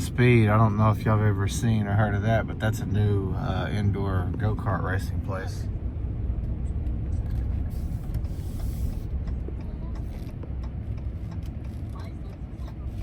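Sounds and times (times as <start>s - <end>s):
road and drivetrain rumble: 0.0s - 13.0s.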